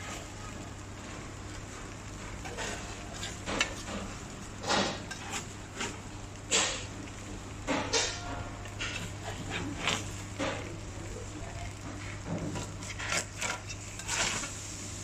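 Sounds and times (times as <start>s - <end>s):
steady low hum: 0.0s - 15.0s
cookware clattering and scraping: 2.4s - 14.7s.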